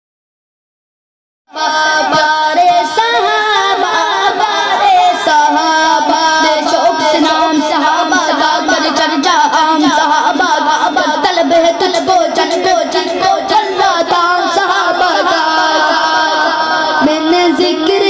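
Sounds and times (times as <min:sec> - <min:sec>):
child singing into microphone: 0:01.5 - 0:18.0.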